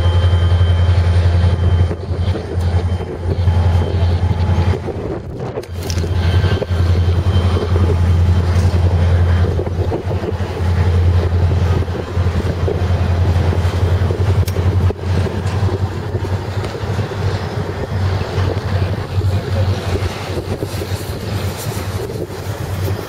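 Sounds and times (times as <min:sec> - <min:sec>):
freight train rolling past: 0:00.0 - 0:23.0
wind buffeting microphone: 0:00.4 - 0:23.0.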